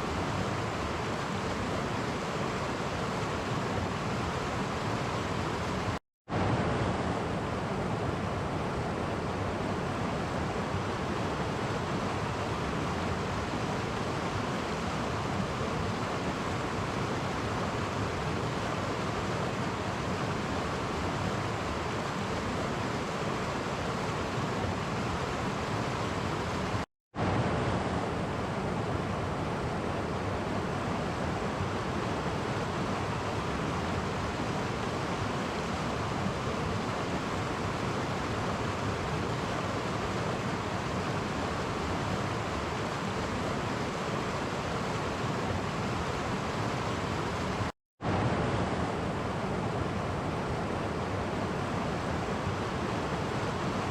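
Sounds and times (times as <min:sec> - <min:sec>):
stream rushing over cascades: 0:00.0 - 0:53.9.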